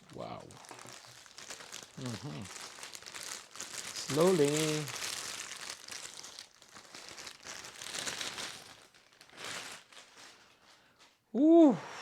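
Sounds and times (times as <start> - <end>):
packaging rustling: 0.2 - 10.8.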